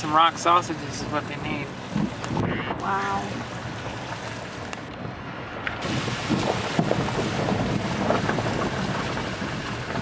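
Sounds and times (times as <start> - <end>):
tyres splashing through water: 0.0 - 10.0.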